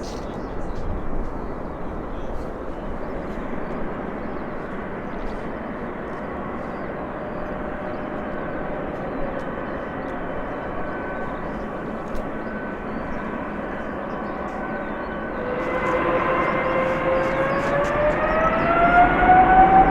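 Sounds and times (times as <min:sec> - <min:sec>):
jet engines running: 0:00.0 - 0:19.9.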